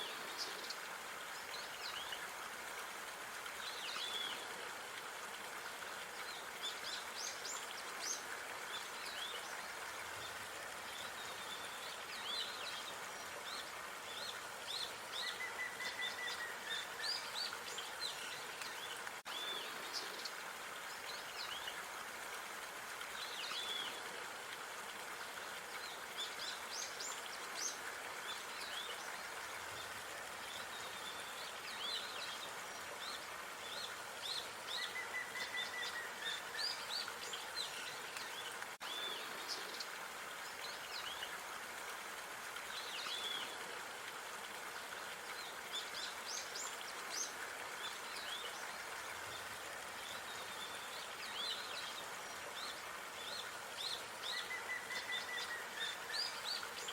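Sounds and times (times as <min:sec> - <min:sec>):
steady background hiss: 0:00.0 - 0:56.9.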